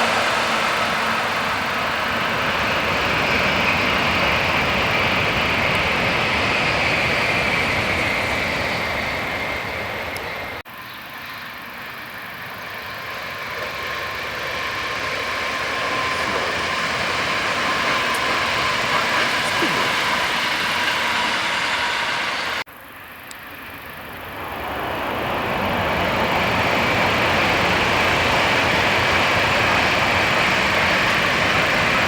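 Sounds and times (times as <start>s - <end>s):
electric train passing at speed: 0.0s - 32.0s.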